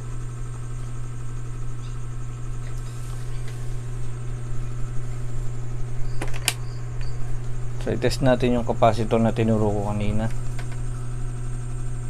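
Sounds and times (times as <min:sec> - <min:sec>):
television electrical hum: 0:00.0 - 0:12.0.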